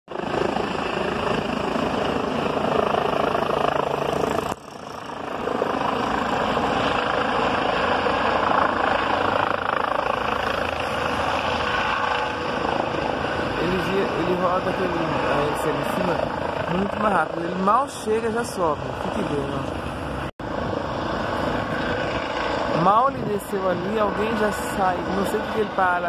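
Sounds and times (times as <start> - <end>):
helicopter rotor and turbine: 0.1 - 26.0.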